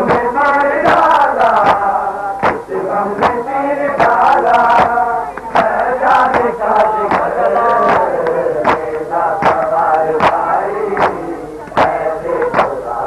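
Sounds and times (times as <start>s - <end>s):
slaps of chest-beating: 0.0s - 3.4s, 4.0s - 12.8s
men chanting in unison: 0.0s - 13.0s.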